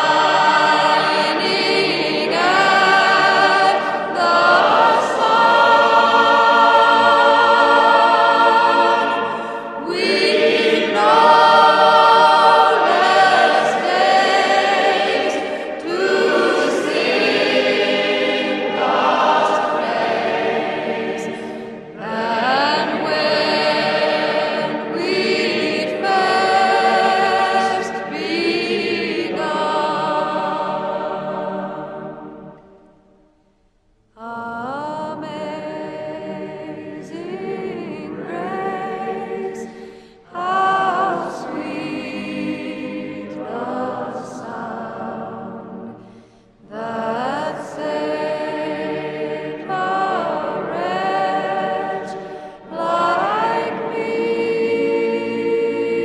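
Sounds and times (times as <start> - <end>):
choir singing: 0.0 - 33.2, 34.2 - 56.0.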